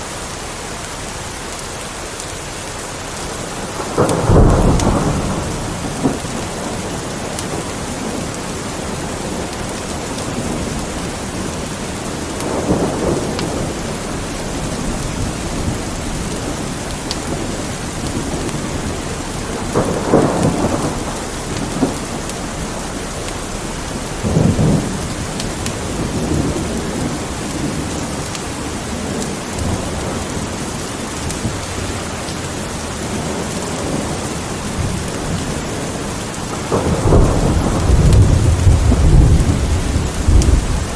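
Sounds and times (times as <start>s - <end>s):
steady rain: 0.0s - 40.9s
thunder rumbling: 3.1s - 40.9s.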